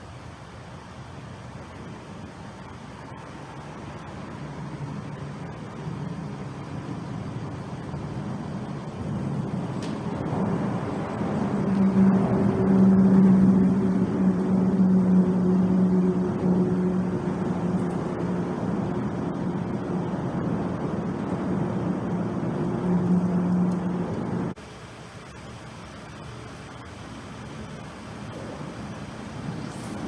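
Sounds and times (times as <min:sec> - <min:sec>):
engine approaching: 0:00.0 - 0:24.6, 0:26.0 - 0:30.0.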